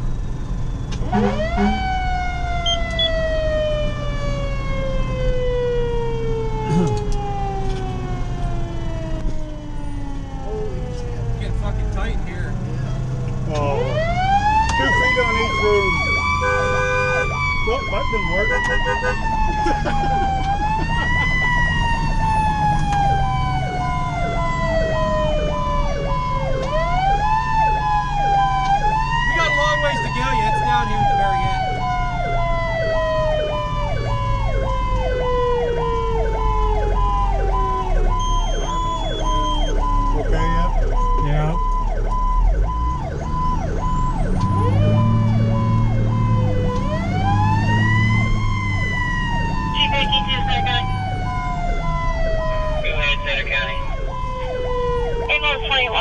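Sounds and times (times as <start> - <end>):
engine and road rumble: 0.0 - 56.0
mechanical siren wailing: 0.0 - 56.0.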